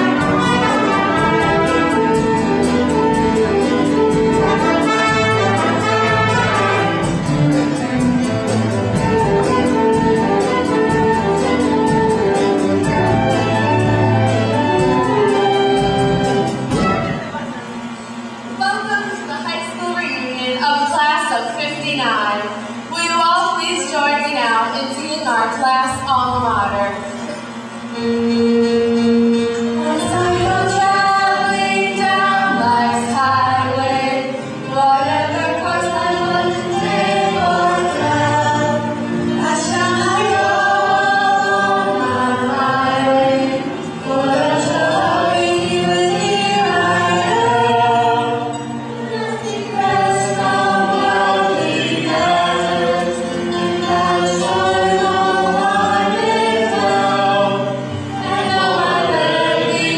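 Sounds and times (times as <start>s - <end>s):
chorus singing in harmony: 0.0s - 17.4s, 28.0s - 59.9s.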